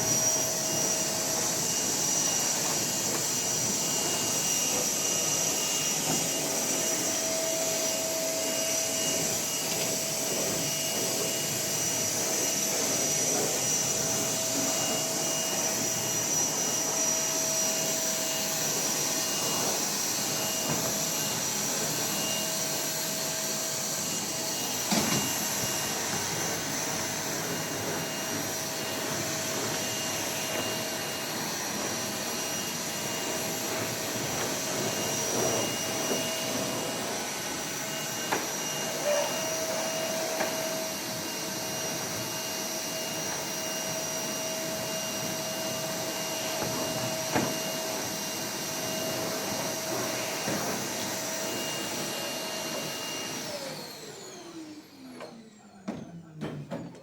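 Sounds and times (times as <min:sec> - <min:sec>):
machine running with high whine: 0:00.0 - 0:55.5.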